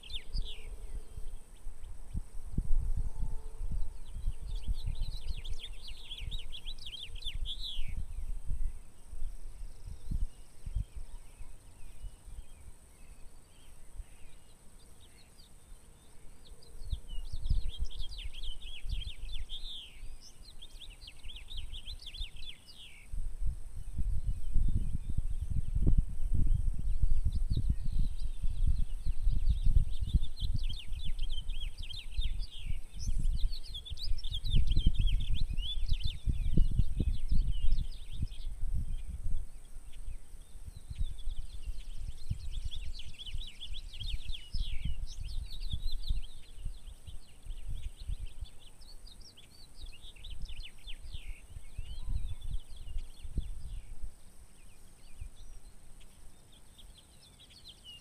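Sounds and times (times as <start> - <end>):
wind gusting on microphone: 0.0 - 15.0, 16.0 - 55.6
songbirds chirping: 0.0 - 58.0.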